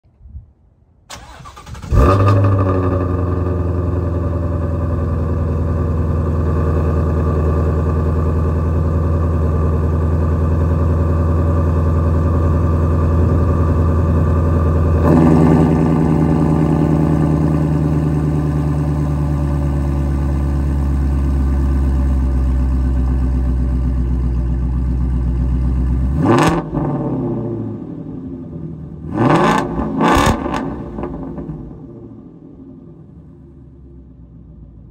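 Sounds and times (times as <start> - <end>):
car engine starting and idling: 1.1 - 34.9.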